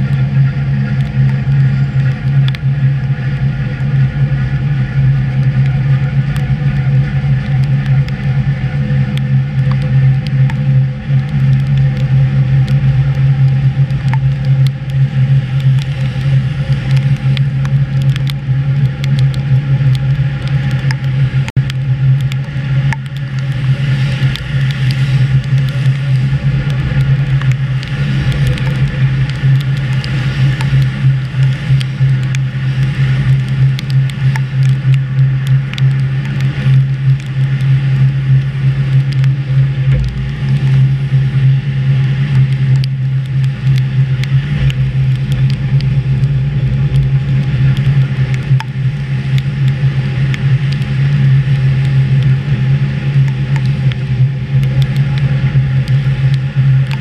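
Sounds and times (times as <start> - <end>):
small scattered clicks: 0.0 - 2.7, 5.3 - 40.9, 42.2 - 51.1, 53.2 - 57.0
electric train hum: 0.0 - 57.0
wheel-on-rail noise: 0.0 - 57.0.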